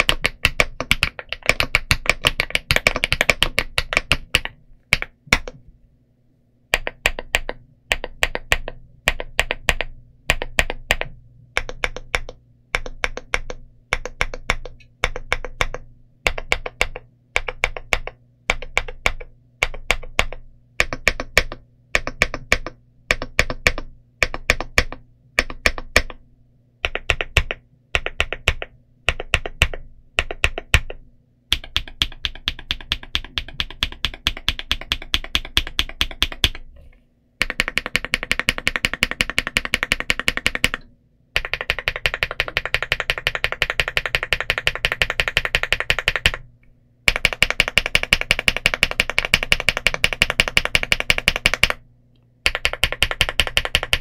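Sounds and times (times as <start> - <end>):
mechanical keyboard typing: 0.0 - 5.6, 6.8 - 26.2, 26.8 - 36.7, 37.4 - 46.5, 47.1 - 51.8, 52.4 - 54.0.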